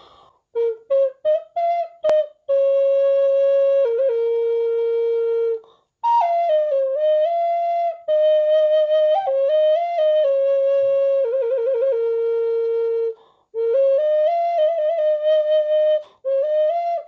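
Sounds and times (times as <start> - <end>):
wooden flute melody: 0.0 - 17.0.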